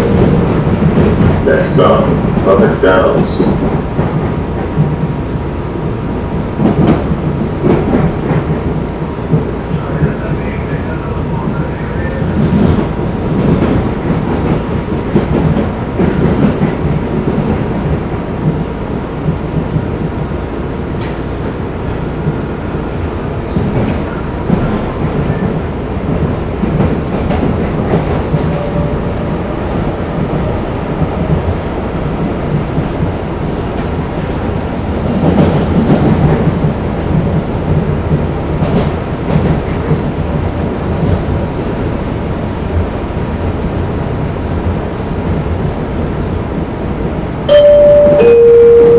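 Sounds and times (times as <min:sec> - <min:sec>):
wheels rumbling on rail: 0:00.0 - 0:48.9.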